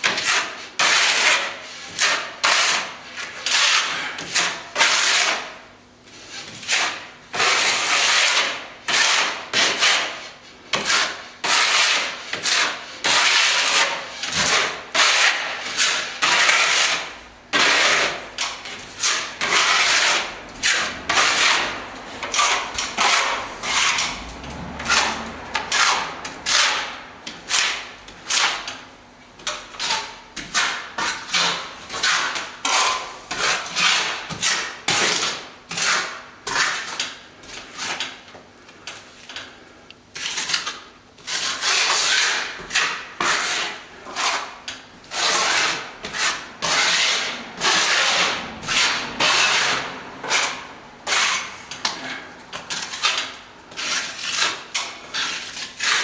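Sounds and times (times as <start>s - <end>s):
hand tool scraping plaster wall: 0.0s - 56.0s.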